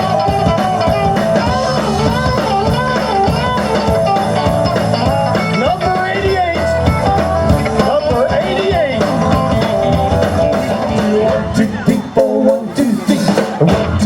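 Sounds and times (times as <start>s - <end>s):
electric guitar lead bending notes: 0.0s - 14.0s
live rock band playing: 0.0s - 14.0s.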